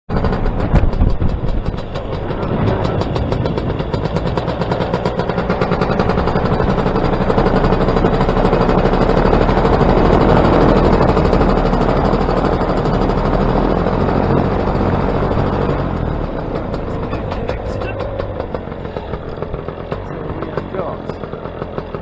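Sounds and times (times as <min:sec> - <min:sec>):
paramotor engine droning: 0:00.1 - 0:22.0.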